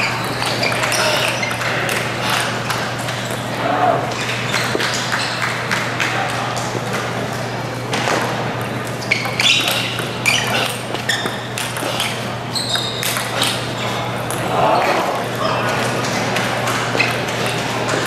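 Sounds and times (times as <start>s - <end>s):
murmur of spectators: 0.0s - 18.0s.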